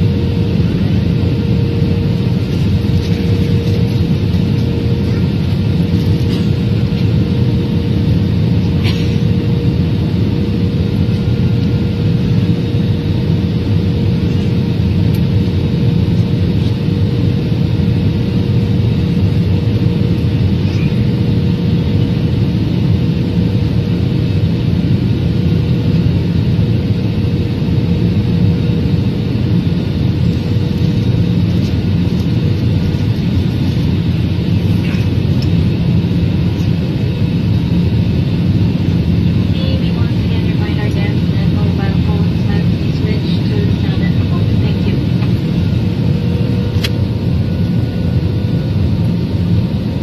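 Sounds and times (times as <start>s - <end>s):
jet engines and airflow drone: 0.0s - 50.0s.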